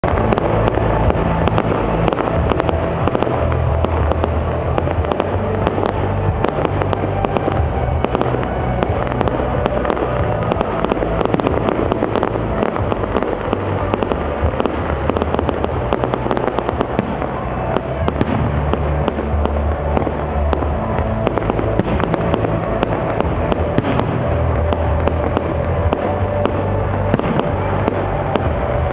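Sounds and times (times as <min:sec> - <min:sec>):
deep fireworks booms: 0:00.0 - 0:28.9
fireworks bangs and crackling: 0:00.0 - 0:28.9.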